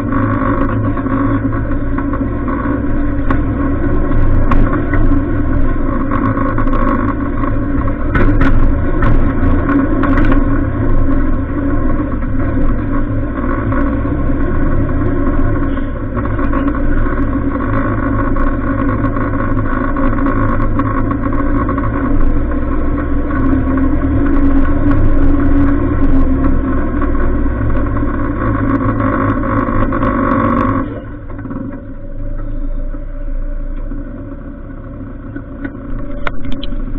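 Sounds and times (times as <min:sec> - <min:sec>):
vehicle engine running under load: 0:00.0 - 0:36.9
sharp knocks from bumpy ride: 0:00.2 - 0:33.2.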